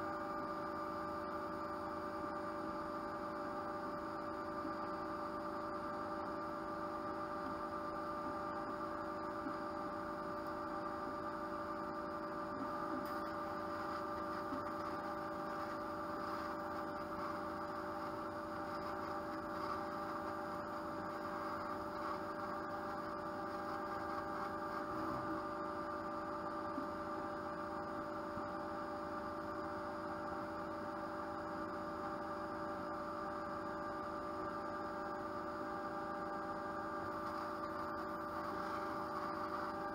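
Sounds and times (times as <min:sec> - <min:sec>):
laser cutter humming: 0:00.0 - 0:39.9.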